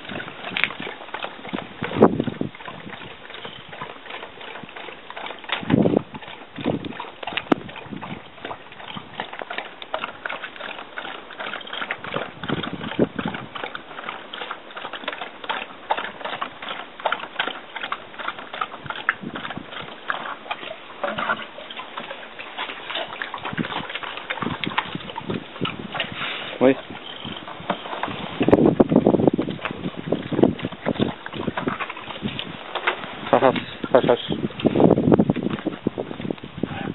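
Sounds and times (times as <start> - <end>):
pony blowing: 0.0 - 35.9
dog lapping water from bucket: 0.0 - 36.9.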